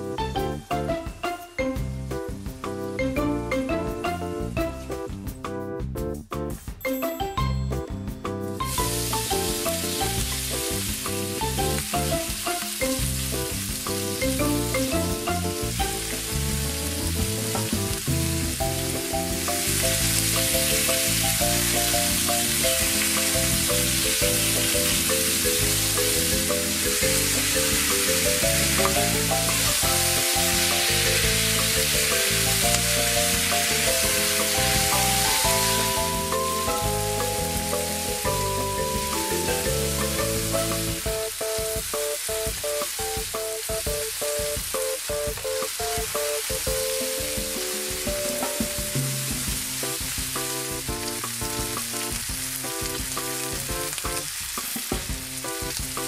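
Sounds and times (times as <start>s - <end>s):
background music with bass line: 0.0s - 56.0s
meat sizzling in a frying pan: 8.6s - 56.0s.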